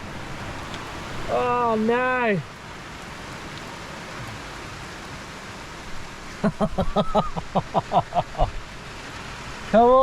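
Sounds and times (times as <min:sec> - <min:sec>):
heavy rain hissing: 0:00.0 - 0:10.0.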